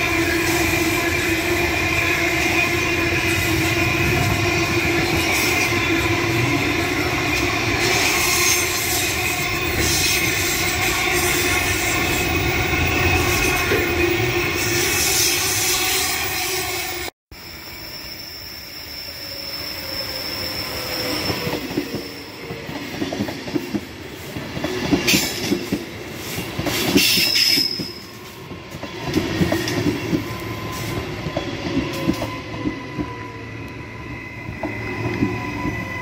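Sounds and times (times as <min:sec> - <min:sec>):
steel wheel squeal: 0:00.2 - 0:22.6, 0:26.2 - 0:36.0.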